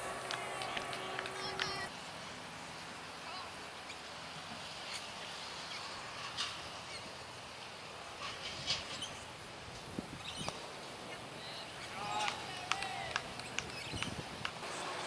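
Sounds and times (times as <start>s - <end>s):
open-air background hiss: 0.0s - 15.0s.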